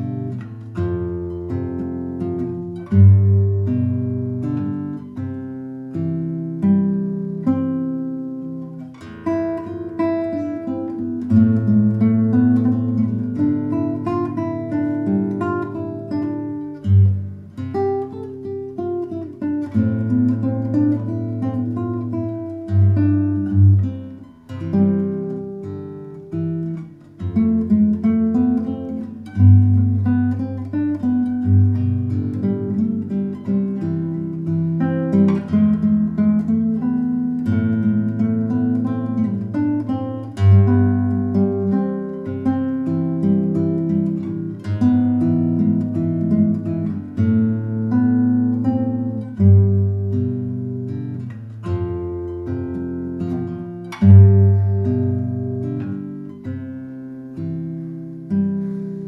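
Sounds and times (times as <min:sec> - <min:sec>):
fingerstyle classical guitar: 0:00.0 - 0:59.0.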